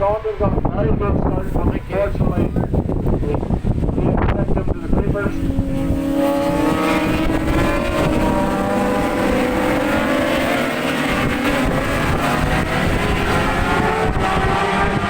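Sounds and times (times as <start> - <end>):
racing motorcycles at high revs: 1.3 - 15.0.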